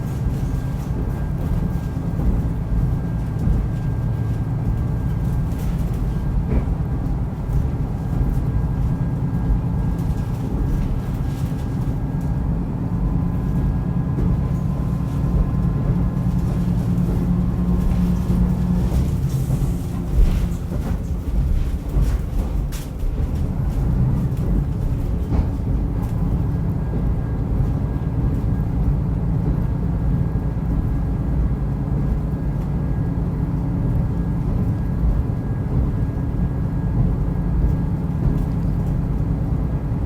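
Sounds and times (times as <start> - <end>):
railcar engine and wheel drone: 0.0 - 40.0.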